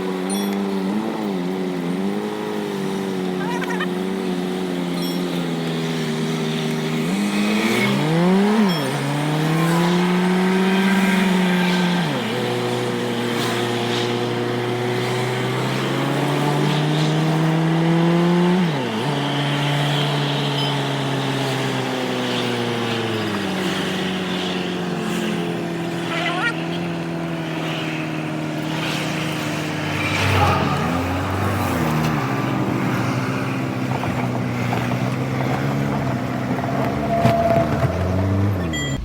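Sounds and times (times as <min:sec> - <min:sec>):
truck engine pulling under load: 0:00.0 - 0:39.0.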